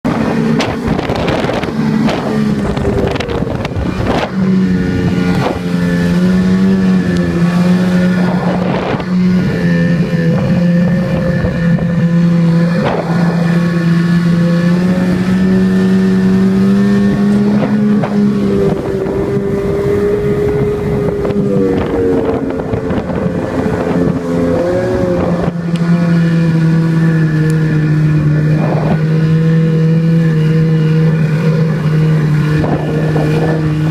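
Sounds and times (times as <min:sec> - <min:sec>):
snowmobile engine running: 0:00.1 - 0:33.9.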